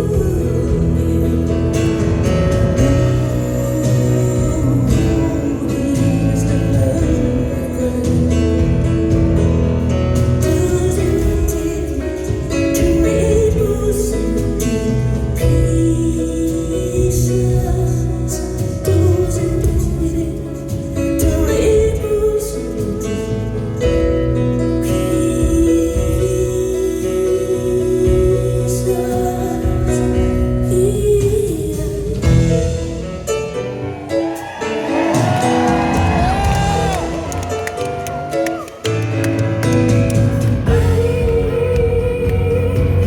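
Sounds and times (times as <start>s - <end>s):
woman singing: 0.0s - 33.3s, 34.4s - 38.9s, 39.9s - 43.0s
live band playing: 0.0s - 43.0s.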